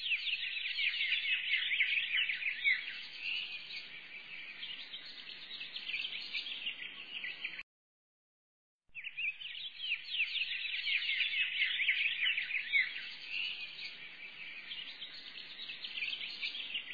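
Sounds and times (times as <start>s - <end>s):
chorus of small birds chirping: 0.0s - 7.6s, 8.9s - 16.9s.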